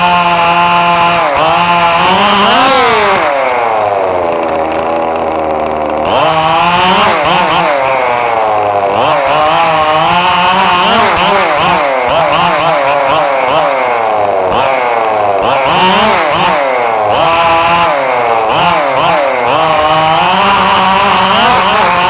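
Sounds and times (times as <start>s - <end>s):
small engine revving: 0.0s - 22.0s.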